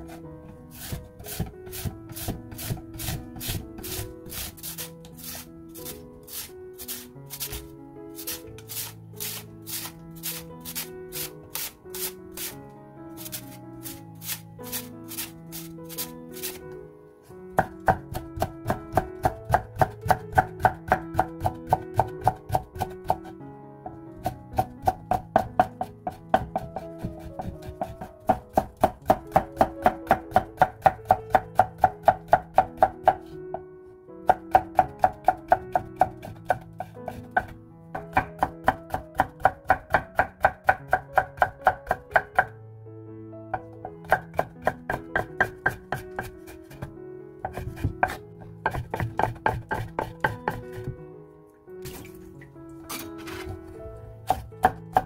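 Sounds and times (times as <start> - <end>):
background music: 0.0 - 55.0
knife chopping on wooden board: 0.1 - 12.6, 13.2 - 16.6, 17.6 - 23.3, 24.2 - 33.4, 34.3 - 42.5, 43.8 - 46.9, 47.5 - 50.9, 54.2 - 55.0.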